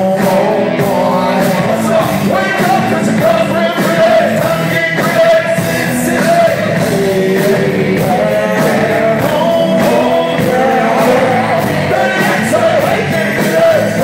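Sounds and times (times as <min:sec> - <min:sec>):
live band playing hip-hop: 0:00.0 - 0:14.0
person singing: 0:00.0 - 0:14.0.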